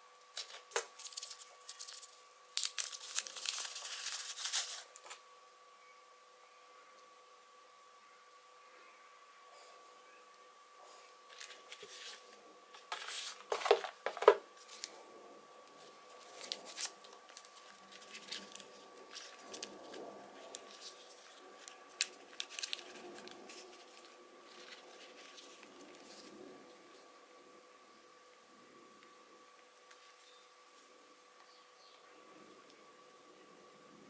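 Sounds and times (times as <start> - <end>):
faint high hum: 0.0 - 34.0.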